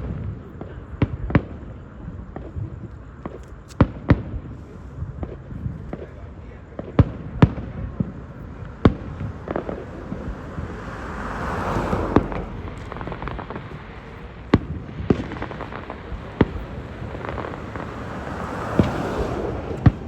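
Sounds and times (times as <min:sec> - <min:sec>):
crackling hiss of fireworks: 0:00.0 - 0:20.0
fireworks booming: 0:03.8 - 0:20.0.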